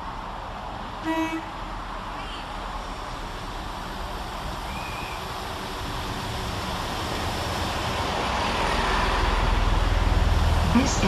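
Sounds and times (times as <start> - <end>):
diesel train approaching: 0.0 - 11.0.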